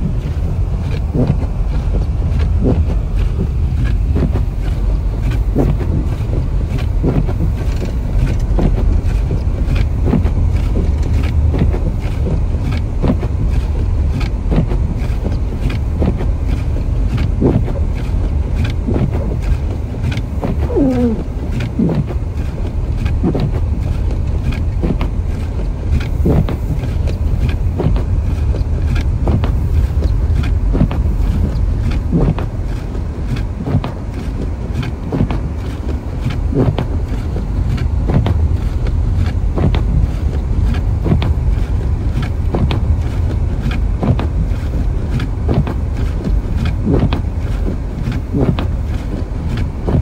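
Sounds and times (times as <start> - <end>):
car engine and tyres rumbling: 0.0 - 50.0
windshield wipers knocking: 0.0 - 50.0.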